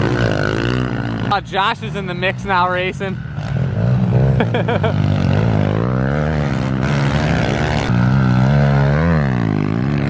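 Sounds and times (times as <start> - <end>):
pit bike engines revving: 0.0 - 10.0.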